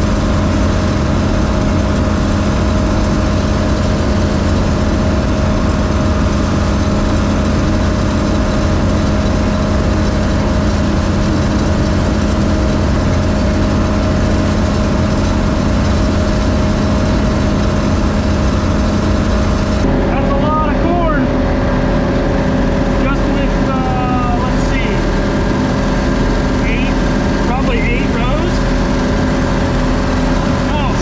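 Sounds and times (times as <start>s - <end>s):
combine engine drone: 0.0s - 31.0s
constant machine whine: 0.0s - 31.0s.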